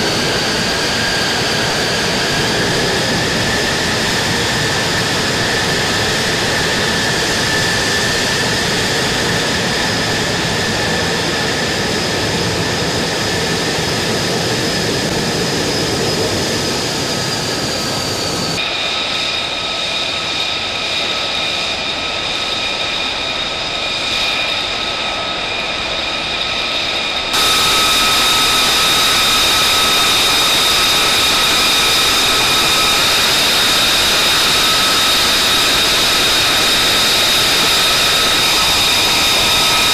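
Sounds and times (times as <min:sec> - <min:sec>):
jet engine rush and whine: 0:00.0 - 0:39.9.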